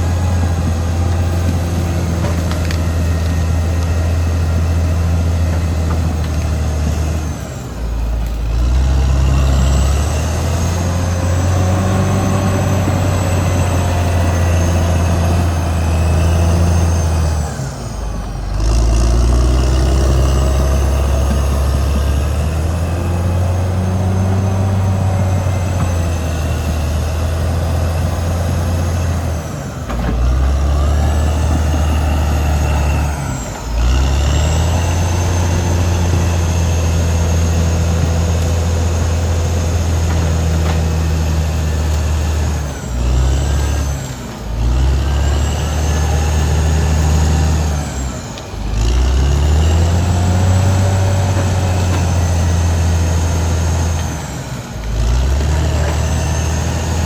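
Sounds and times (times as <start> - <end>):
bulldozer diesel engine revving: 0.0 - 57.0.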